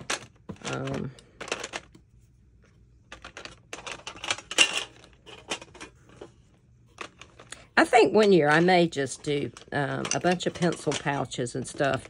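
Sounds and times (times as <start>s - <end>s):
pens rattling in a metal tin: 0.0s - 2.0s, 3.1s - 6.3s, 6.9s - 12.0s.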